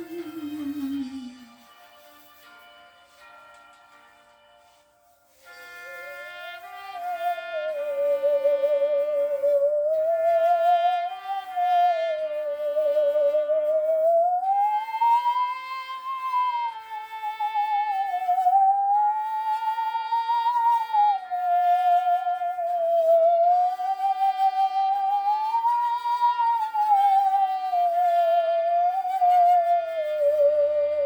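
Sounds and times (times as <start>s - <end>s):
bowed musical saw melody: 0.0s - 31.0s.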